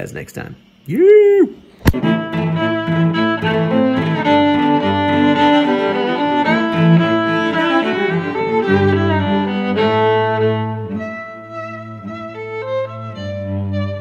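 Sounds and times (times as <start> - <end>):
cello and violin piece: 1.8 - 14.0.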